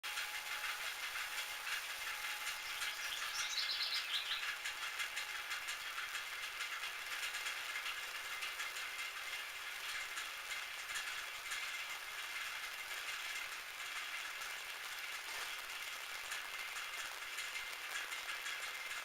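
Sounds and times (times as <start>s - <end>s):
rapid light ticking: 0.1s - 19.0s.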